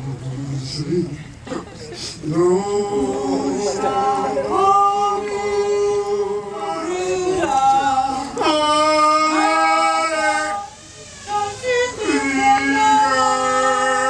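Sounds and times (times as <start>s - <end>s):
voices singing long notes: 2.0s - 14.0s.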